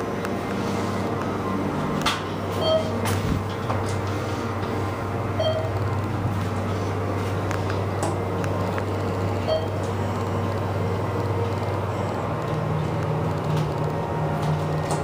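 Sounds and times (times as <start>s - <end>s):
elevator pump motor hum: 0.0s - 15.0s
higher hum: 0.0s - 15.0s.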